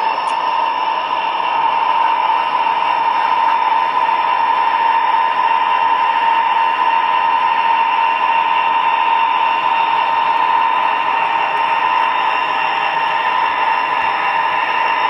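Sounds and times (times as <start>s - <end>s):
model train motor whine: 0.0s - 15.0s
model train running noise: 0.0s - 15.0s.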